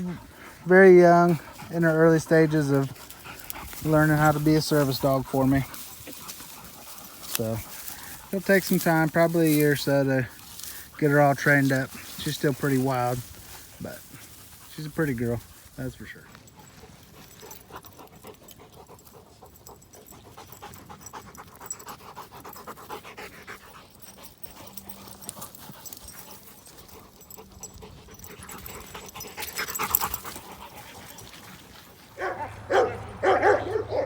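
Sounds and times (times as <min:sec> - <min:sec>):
dogs barking and yipping: 0:00.0 - 0:14.8, 0:16.4 - 0:34.0
dog panting: 0:00.0 - 0:14.9, 0:16.3 - 0:34.0.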